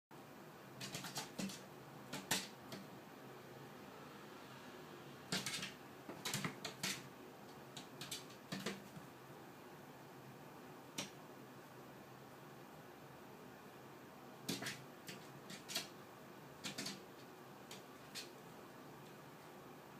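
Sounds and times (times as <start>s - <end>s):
faint room hiss: 0.1s - 19.9s.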